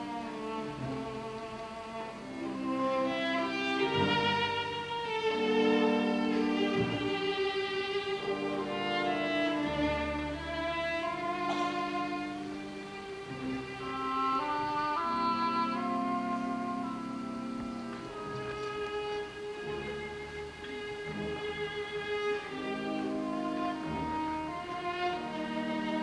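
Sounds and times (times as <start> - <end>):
orchestral ballet music with strings: 0.0 - 26.0.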